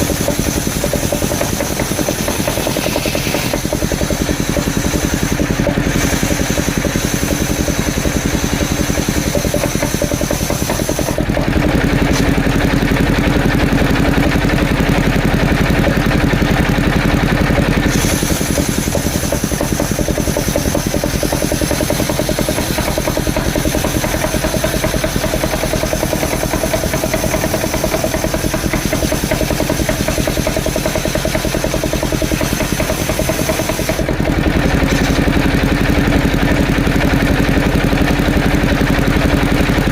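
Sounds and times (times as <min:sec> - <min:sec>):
wood saw engine running: 0:00.0 - 0:39.9.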